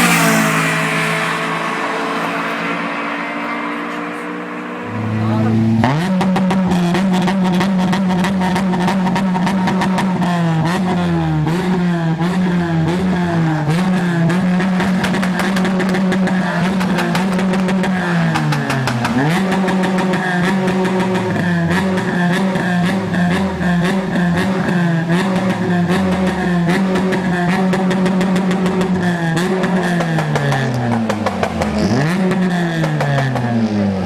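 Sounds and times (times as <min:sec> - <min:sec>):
engine at high revs: 0:00.0 - 0:34.0.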